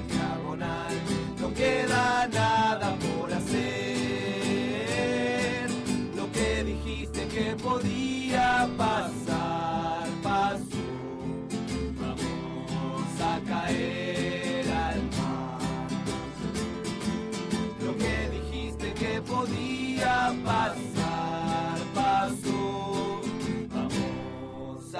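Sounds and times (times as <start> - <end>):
person singing: 0.0 - 16.9, 17.6 - 24.9
acoustic guitar strumming: 0.0 - 24.9.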